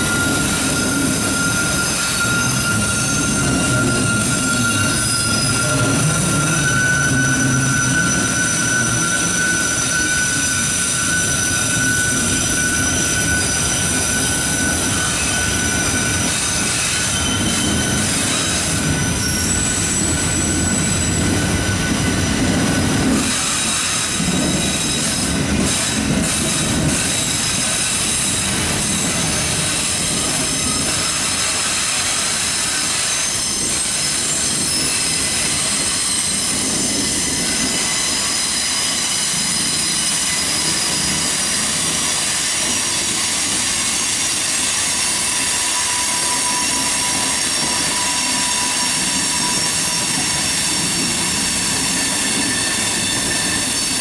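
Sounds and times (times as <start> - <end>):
high-pitched wheel squeal: 0.0 - 54.0
train wheels rumbling on rails: 0.0 - 54.0.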